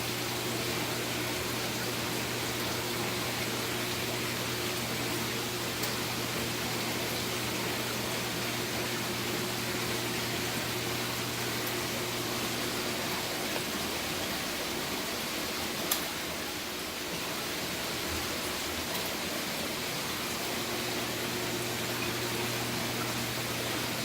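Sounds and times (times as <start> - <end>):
aquarium pump hiss and hum: 0.0 - 24.0.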